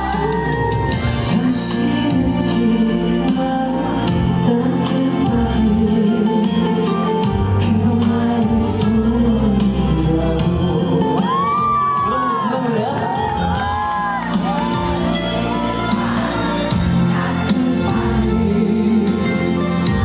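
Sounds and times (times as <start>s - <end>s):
band backing track: 0.0s - 20.0s
man singing with vibrato: 0.0s - 20.0s.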